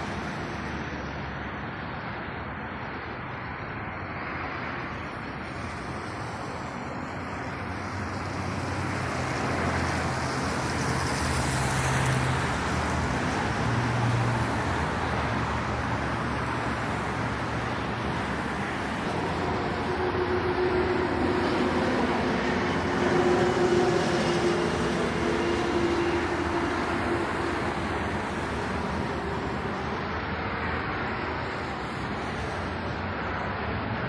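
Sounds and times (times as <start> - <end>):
passing cars and tyre noise: 0.0 - 34.0
vehicle engine hum: 0.0 - 34.0.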